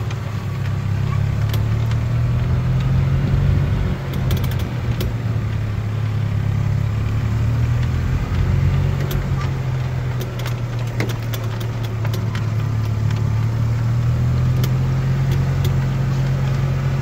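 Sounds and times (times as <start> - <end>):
clicks and rattles: 0.0 - 5.8, 7.0 - 16.7
utility vehicle engine humming: 0.0 - 17.0.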